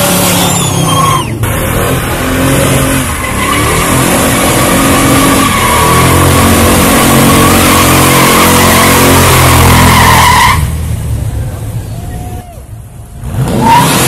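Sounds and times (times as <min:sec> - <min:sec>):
car engine revving hard: 0:00.0 - 0:10.7, 0:13.2 - 0:14.0.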